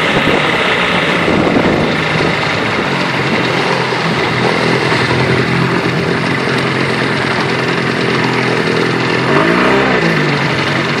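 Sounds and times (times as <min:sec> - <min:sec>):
outboard motor running: 0:00.0 - 0:11.0
water rushing from wake: 0:00.0 - 0:11.0.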